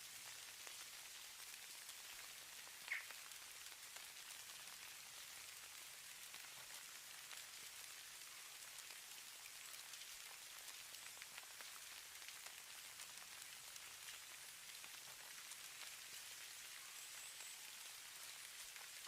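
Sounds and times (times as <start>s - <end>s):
hiss of falling snow: 0.0s - 19.0s.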